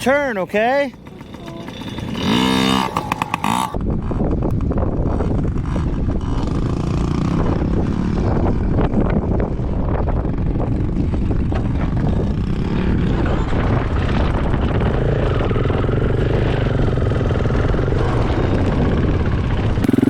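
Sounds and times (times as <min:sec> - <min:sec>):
dirt bike engines running: 0:00.0 - 0:20.0
wind buffeting microphone: 0:00.0 - 0:20.0.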